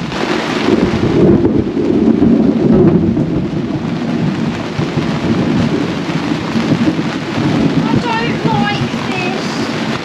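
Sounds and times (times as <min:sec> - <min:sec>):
heavy rain on canvas and plastic: 0:00.0 - 0:10.0.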